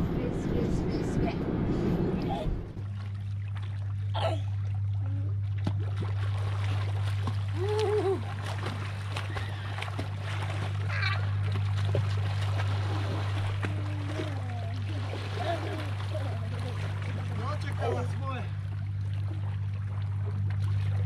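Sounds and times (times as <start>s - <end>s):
steady low hum: 0.0s - 21.0s
water splashing and sloshing: 0.0s - 21.0s.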